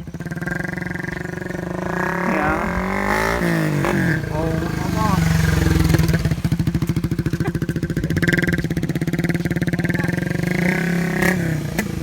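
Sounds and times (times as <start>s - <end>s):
motorcycle exhaust putter: 0.0s - 12.0s.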